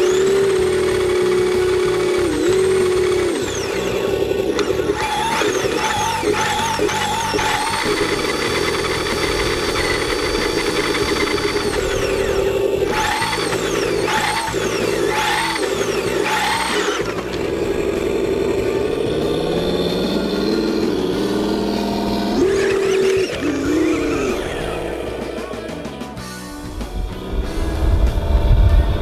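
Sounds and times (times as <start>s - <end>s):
electric motor whine: 0.0s - 29.0s
simulated engine drone: 0.0s - 29.0s.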